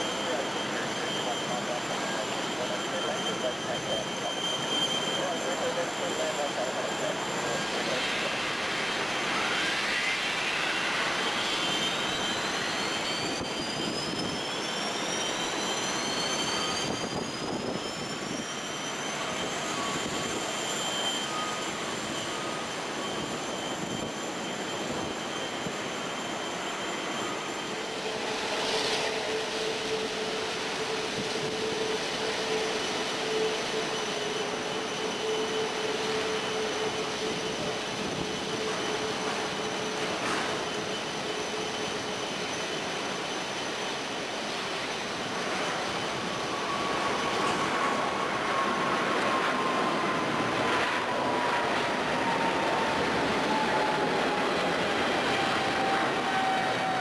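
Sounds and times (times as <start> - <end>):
jet engines spooling up: 0.0 - 57.0.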